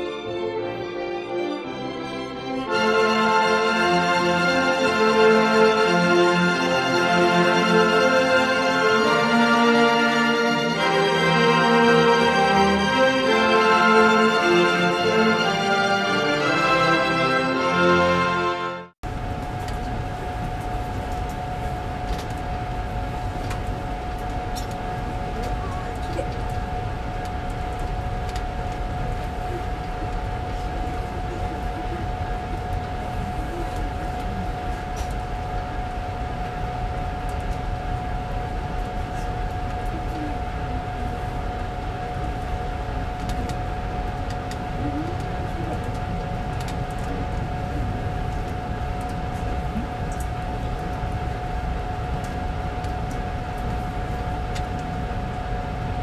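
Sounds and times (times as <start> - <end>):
constant high whine: 0.0 - 56.0.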